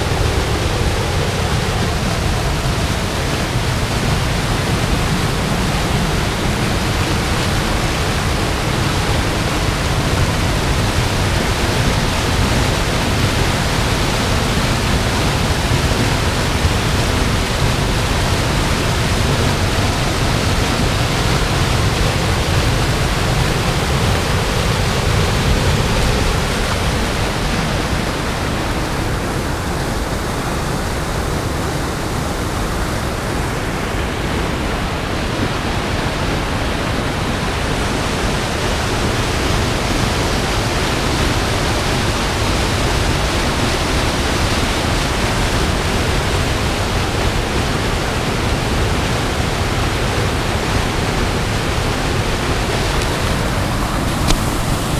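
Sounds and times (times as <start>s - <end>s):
water rushing over waterfalls: 0.0s - 54.9s.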